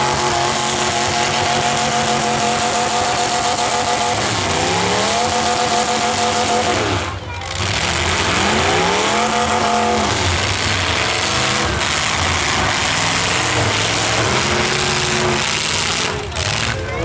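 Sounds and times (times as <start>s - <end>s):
car engines revving hard: 0.0s - 17.0s
engine rising in pitch: 0.0s - 17.0s.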